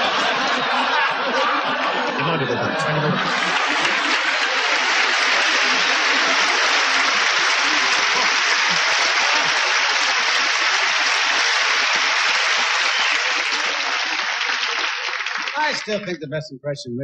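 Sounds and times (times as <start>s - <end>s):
large audience applauding: 0.0s - 16.2s.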